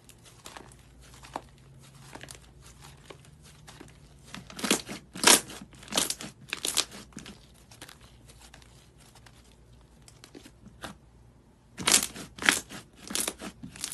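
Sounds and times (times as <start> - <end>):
slime squelching and crackling: 0.0 - 10.9, 11.8 - 13.9.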